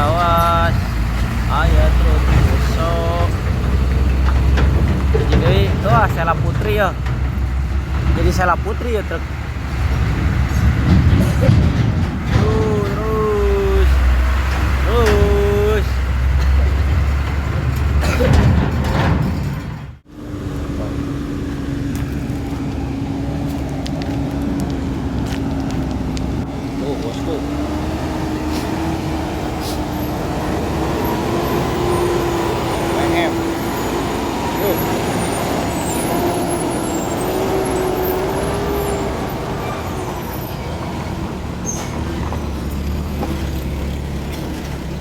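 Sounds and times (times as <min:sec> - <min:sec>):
diesel truck engine rumbling: 0:00.0 - 0:45.0
road traffic: 0:00.0 - 0:45.0.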